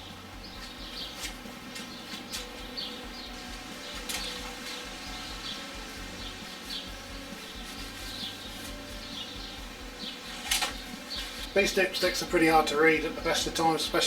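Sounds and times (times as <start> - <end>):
birds chirping faintly: 0.0 - 14.0
steady background hum: 0.0 - 14.0.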